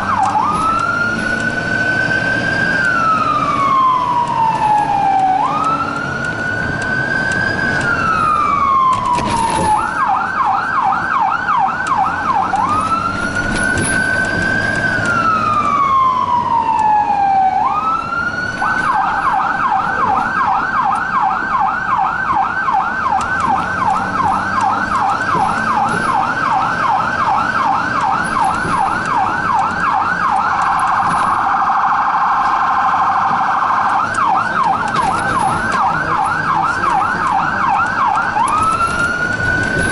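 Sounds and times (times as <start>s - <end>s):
electronic siren wailing and yelping: 0.0s - 39.9s.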